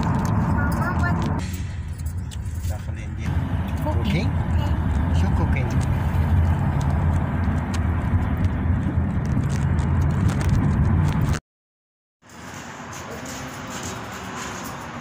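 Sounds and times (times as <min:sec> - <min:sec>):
car road and engine noise: 0:00.0 - 0:11.4, 0:12.2 - 0:15.0.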